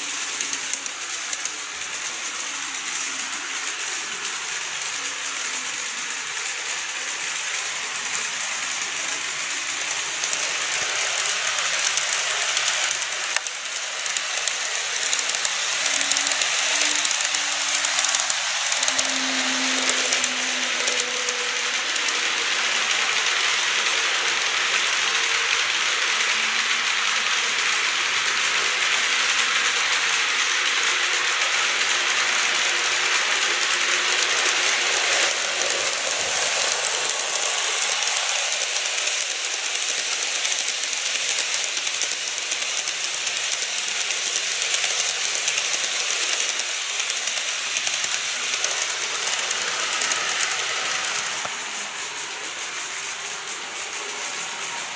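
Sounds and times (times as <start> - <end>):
model trains rattling on track: 0.0 - 54.9.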